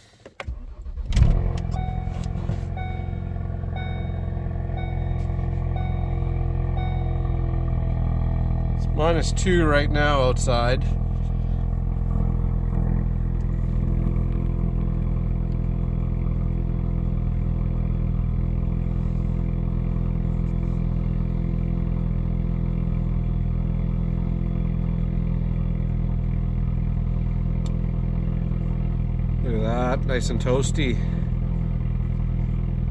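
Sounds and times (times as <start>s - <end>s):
car engine idling: 0.4s - 32.9s.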